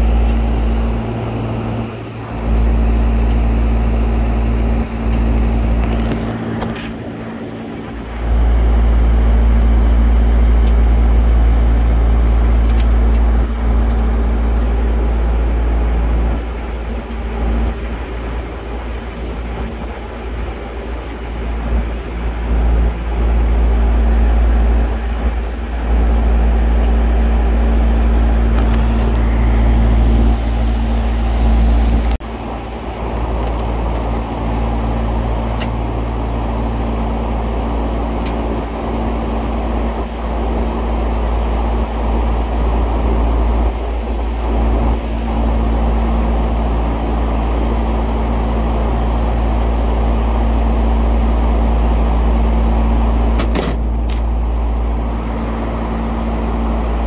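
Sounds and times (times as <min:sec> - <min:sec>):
machinery droning: 0:00.0 - 0:57.0.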